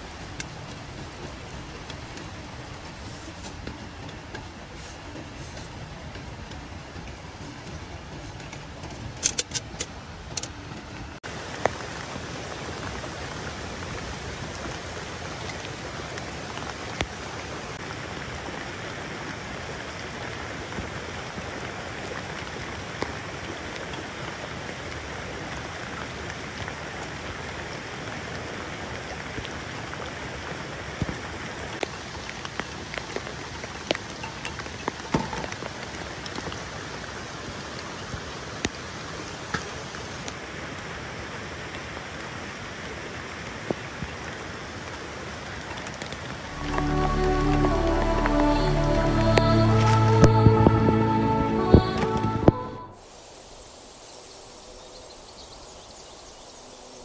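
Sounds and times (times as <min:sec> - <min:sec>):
rain rushing: 0:00.0 - 0:57.0
stream running over rocks: 0:00.0 - 0:57.0.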